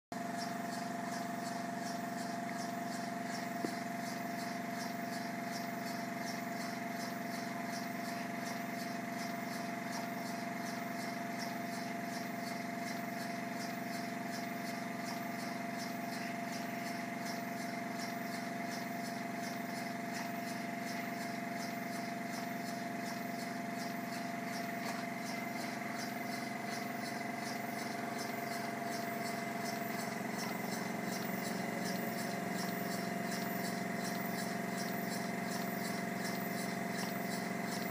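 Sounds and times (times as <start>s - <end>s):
model steam engine running: 0.2s - 37.9s.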